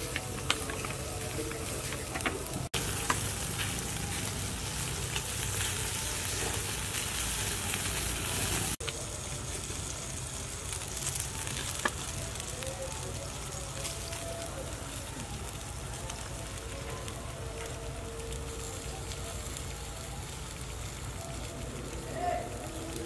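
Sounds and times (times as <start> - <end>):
fish sizzling on grill: 0.0 - 23.0.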